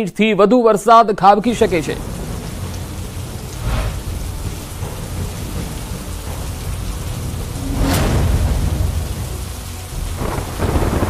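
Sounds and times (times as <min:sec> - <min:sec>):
heavy rain: 0:01.4 - 0:11.0
thunder crack and rumble: 0:01.5 - 0:11.0.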